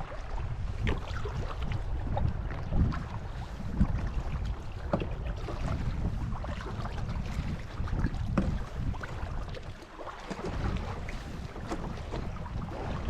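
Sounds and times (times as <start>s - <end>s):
kayak paddle splashing: 0.0s - 13.0s
wind rumble on microphone: 0.0s - 13.0s.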